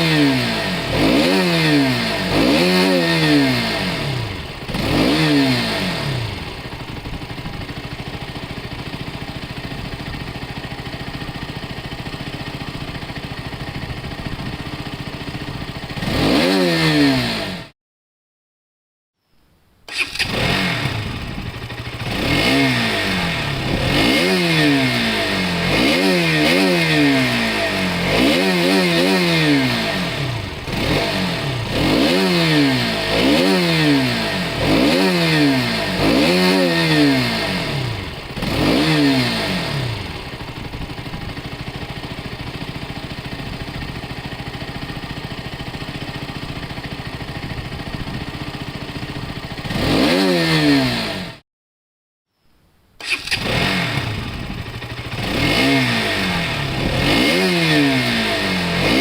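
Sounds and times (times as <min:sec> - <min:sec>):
motorcycle engine revving and idling: 0:00.0 - 0:17.8, 0:19.9 - 0:51.4, 0:53.0 - 0:59.0.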